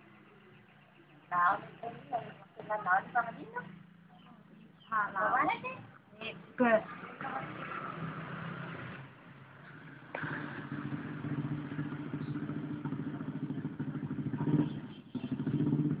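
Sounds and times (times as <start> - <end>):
small motorcycle engine idling: 0.0 - 5.2, 6.9 - 16.0.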